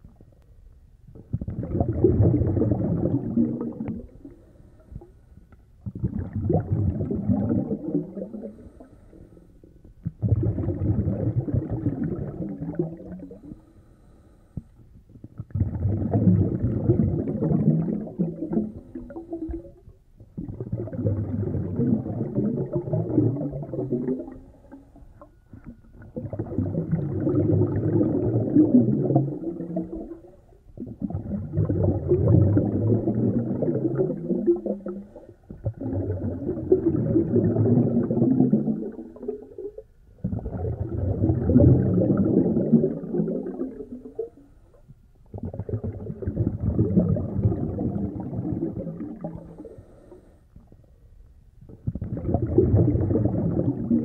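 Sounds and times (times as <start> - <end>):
air bubbling in water: 1.1 - 5.2, 5.8 - 13.7, 15.0 - 50.8, 51.7 - 54.0.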